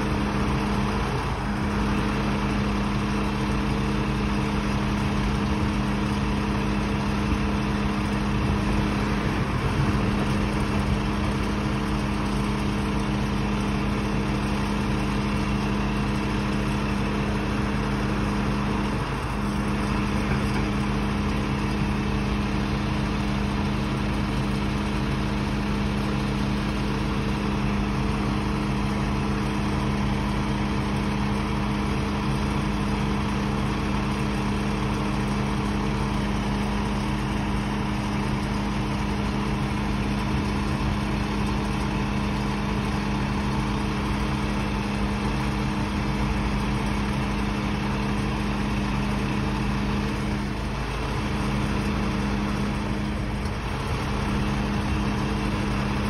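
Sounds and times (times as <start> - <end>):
truck machinery humming: 0.0 - 56.0.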